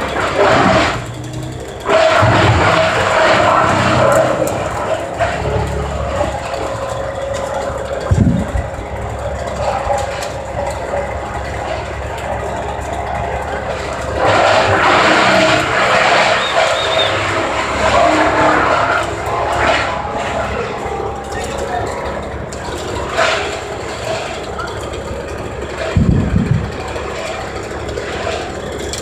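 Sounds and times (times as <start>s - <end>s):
gas engine running: 0.0s - 29.0s.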